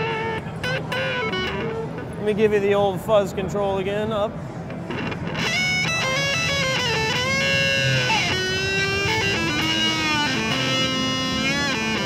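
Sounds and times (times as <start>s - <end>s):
fuzzed electric guitar notes: 0.0s - 2.2s, 4.5s - 12.0s.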